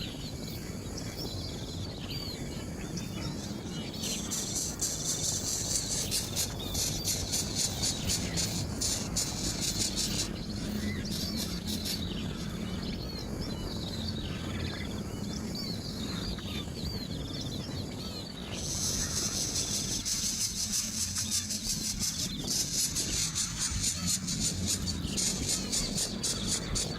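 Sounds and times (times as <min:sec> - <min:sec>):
pulsing high-pitched insect buzz: 0:00.0 - 0:15.8, 0:18.4 - 0:26.9
small birds chirping: 0:00.0 - 0:26.9
steady low hum: 0:00.0 - 0:26.9.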